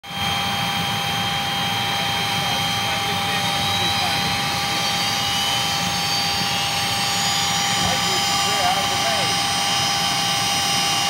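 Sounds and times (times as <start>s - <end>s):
jet turbine whine: 0.0s - 11.0s
turbine spooling up: 0.0s - 11.0s.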